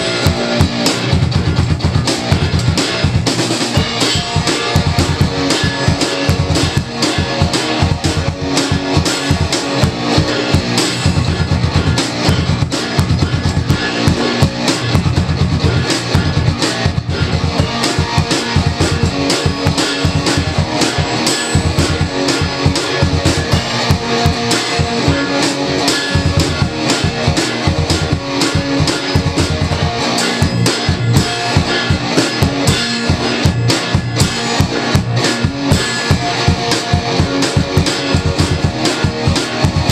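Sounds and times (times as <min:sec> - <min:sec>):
bass drum: 0:00.0 - 0:39.9
electric guitar playing: 0:00.0 - 0:39.9
fast drum kit: 0:00.0 - 0:39.9
rock music: 0:00.0 - 0:39.9.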